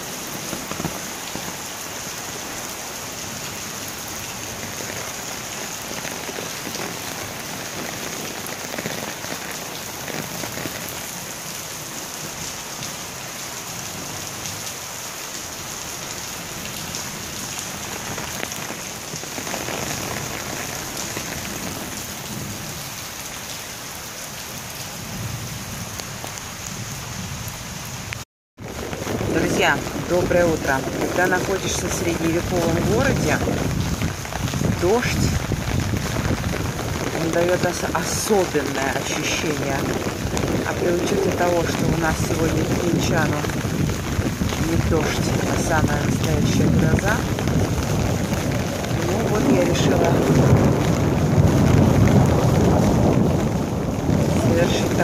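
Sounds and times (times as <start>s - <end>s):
heavy rain on stone pavement: 0.0s - 55.0s.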